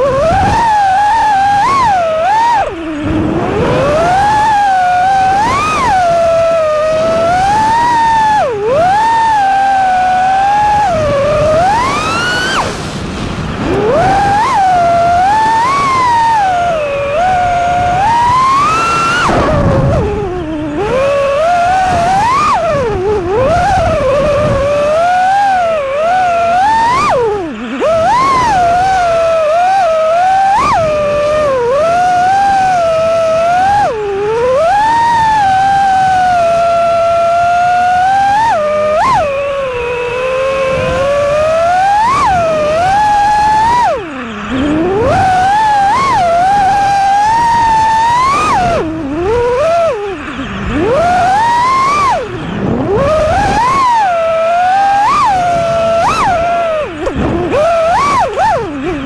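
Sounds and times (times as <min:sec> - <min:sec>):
drone motors whining: 0:00.0 - 0:59.0.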